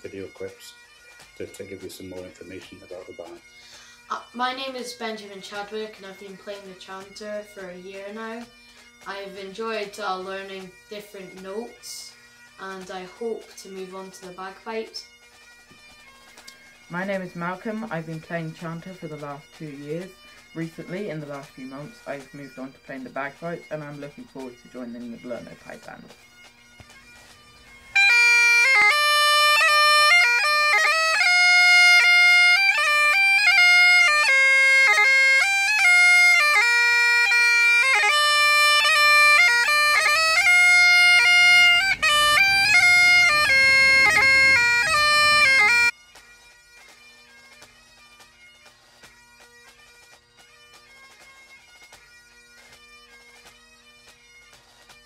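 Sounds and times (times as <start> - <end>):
bagpipes playing a tune: 0.0 - 55.0.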